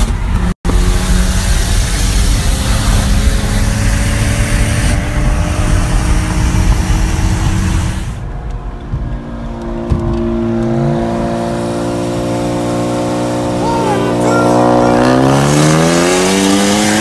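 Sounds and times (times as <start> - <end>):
car engine at full throttle: 0.0 - 17.0
wind and road rush: 0.0 - 17.0.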